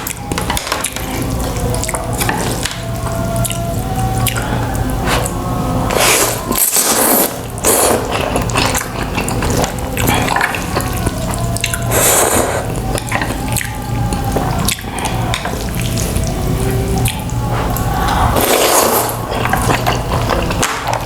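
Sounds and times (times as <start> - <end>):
noodle slurping and chewing: 0.0 - 21.0.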